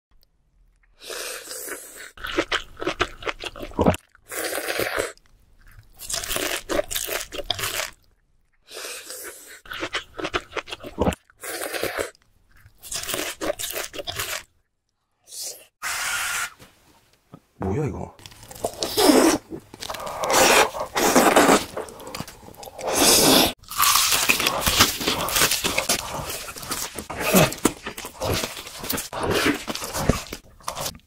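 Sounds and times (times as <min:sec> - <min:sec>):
person crunching vegetables: 0:01.0 - 0:08.2, 0:08.9 - 0:14.5, 0:18.2 - 0:31.0.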